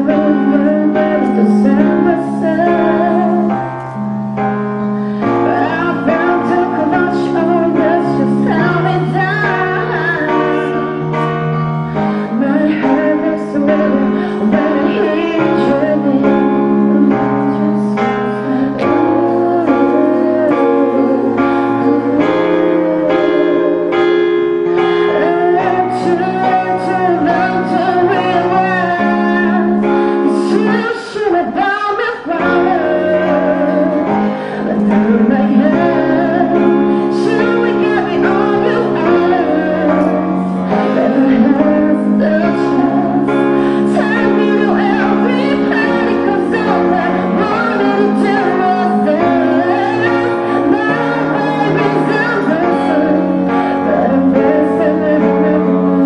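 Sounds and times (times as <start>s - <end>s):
electronic keyboard chords and melody: 0.0s - 56.0s.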